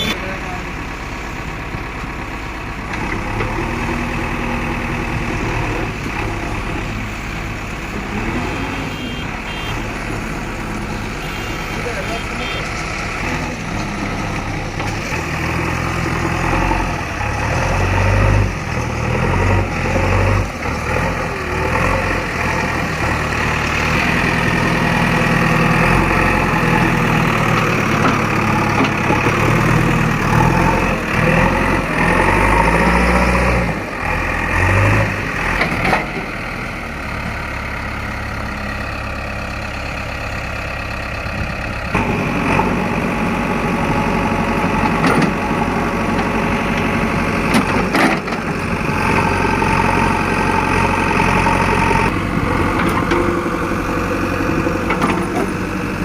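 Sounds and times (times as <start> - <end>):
diesel engine revving and idling: 0.0 - 56.0.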